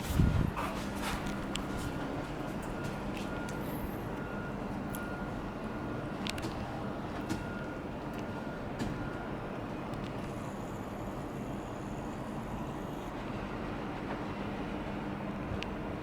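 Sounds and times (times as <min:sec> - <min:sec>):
city snowstorm noise: 0:00.0 - 0:16.0.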